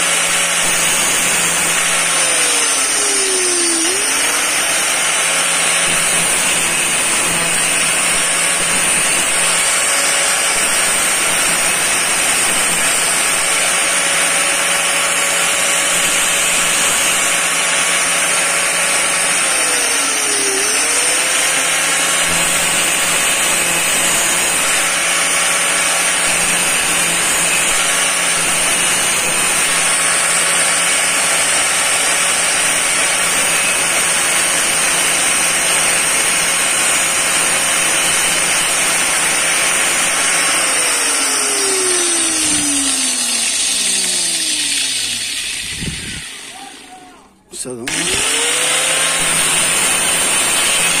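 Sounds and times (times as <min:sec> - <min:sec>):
angle grinder grinding steel: 0:00.0 - 0:51.0.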